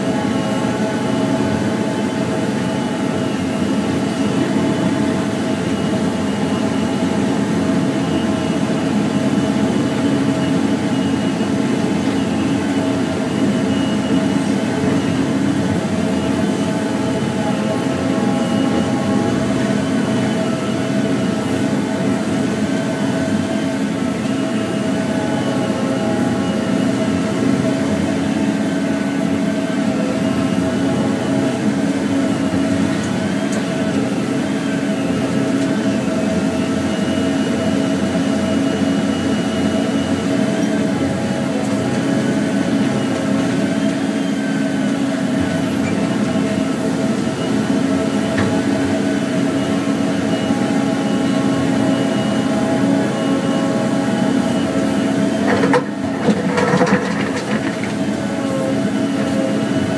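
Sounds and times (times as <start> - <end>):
heavy diesel engine and hydraulics: 0.0 - 59.9.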